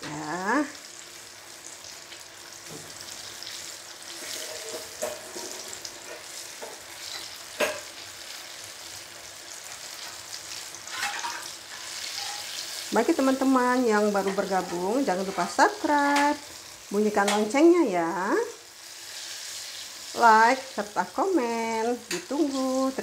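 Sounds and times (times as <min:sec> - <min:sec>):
eggplant deep-frying in oil: 0:00.0 - 0:23.0.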